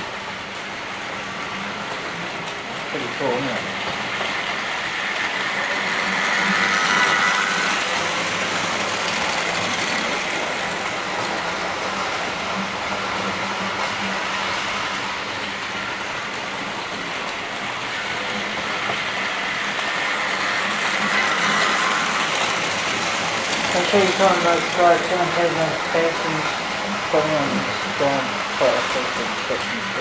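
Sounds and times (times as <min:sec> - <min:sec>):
model train whirring rumble: 0:00.0 - 0:30.0.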